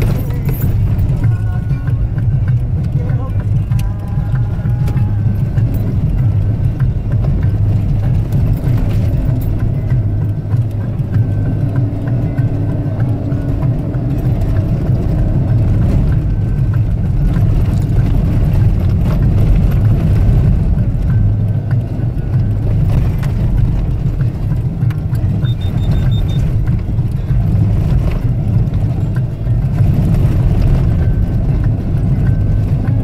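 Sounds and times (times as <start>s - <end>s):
vehicle engine and tyres rumbling: 0.0s - 33.0s.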